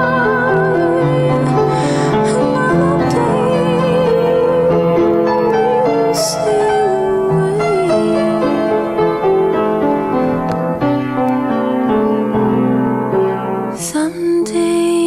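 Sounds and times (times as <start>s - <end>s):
keyboard instrumental music: 0.0s - 13.8s.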